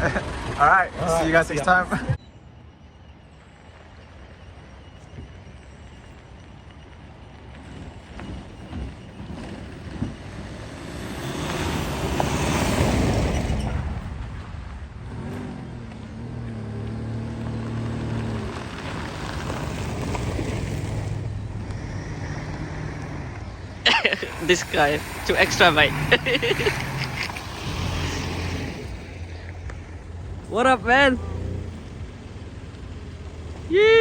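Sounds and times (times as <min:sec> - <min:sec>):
road noise: 0:00.0 - 0:34.0
car engine drone: 0:02.6 - 0:34.0.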